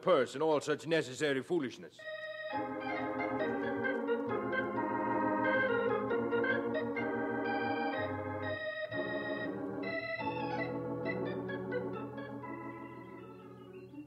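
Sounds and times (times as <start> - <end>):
organ chords: 2.0 - 14.0.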